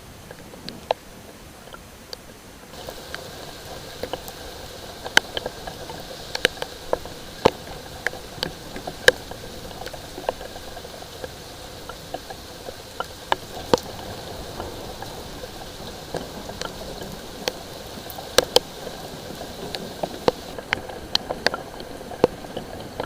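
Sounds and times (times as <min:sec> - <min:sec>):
light rain hiss: 0:00.0 - 0:23.0
raindrops dripping and ticking: 0:00.0 - 0:23.0.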